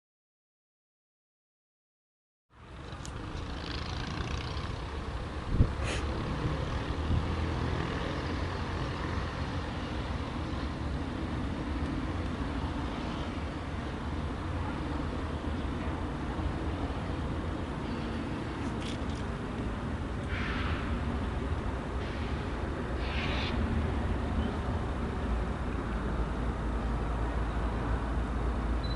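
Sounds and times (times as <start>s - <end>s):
diesel freight train rumble: 2.6s - 28.9s.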